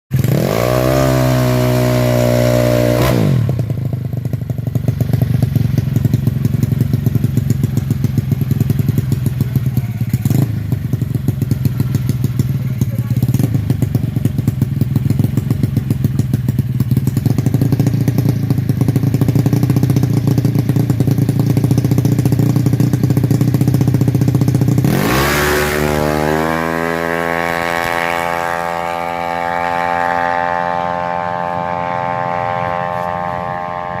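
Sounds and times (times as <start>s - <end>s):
scooter engine revving: 0.1s - 34.0s.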